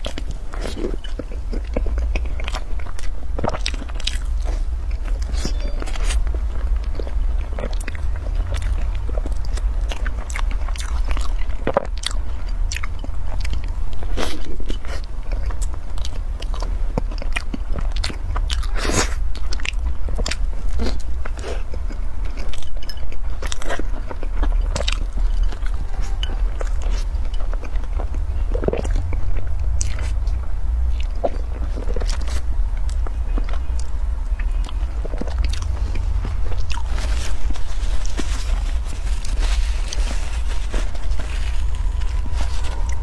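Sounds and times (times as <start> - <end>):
crunchy chewing: 0.0 - 43.0
steady low hum: 0.0 - 43.0.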